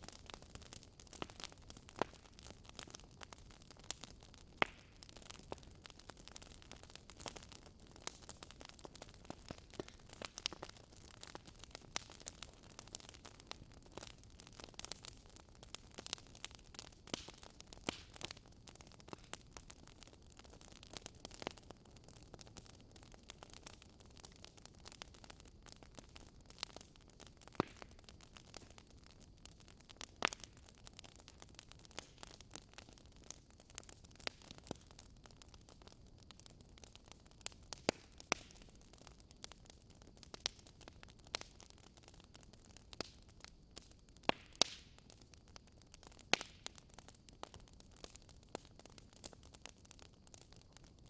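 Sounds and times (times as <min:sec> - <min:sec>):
wood fire crackling and popping: 0:00.0 - 0:51.0.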